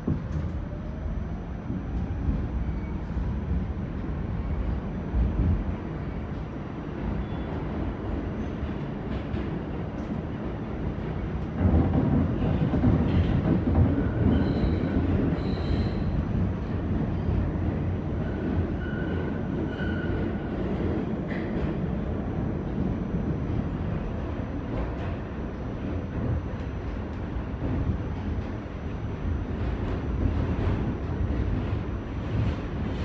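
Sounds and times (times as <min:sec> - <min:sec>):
subway car rumbling in tunnel: 0:00.0 - 0:33.0.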